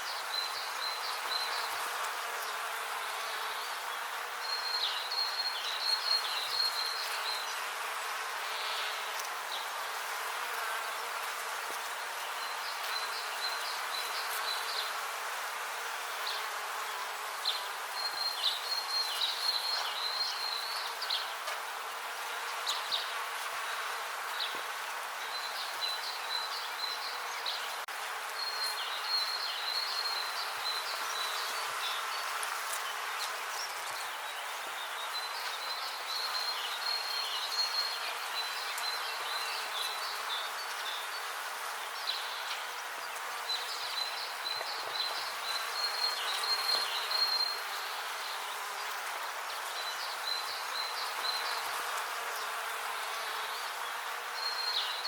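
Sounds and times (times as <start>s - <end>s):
bees buzzing: 0.3s - 55.0s.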